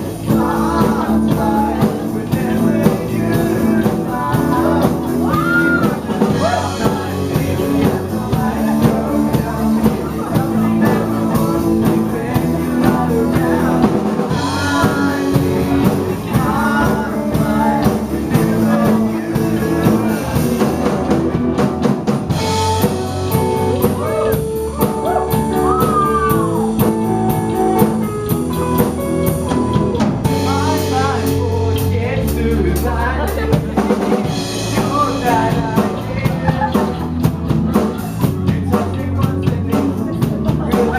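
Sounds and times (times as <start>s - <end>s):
person singing: 0.0s - 21.6s, 22.3s - 40.9s
drum kit: 0.0s - 40.9s
guitar: 0.0s - 40.9s.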